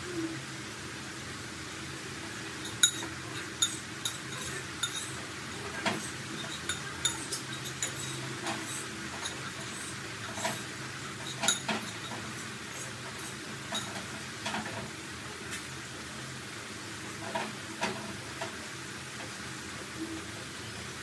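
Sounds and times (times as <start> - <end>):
potatoes sizzling in hot oil: 0.4 - 21.0.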